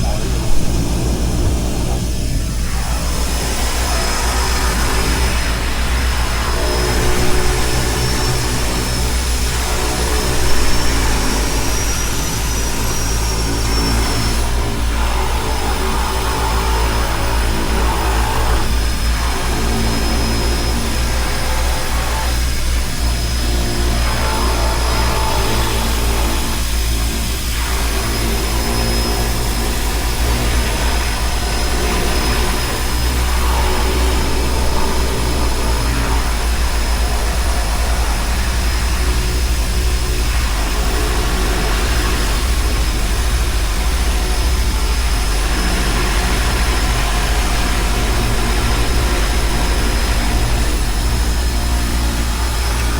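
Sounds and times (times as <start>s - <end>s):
seaplane propeller engines running: 0.0s - 52.9s.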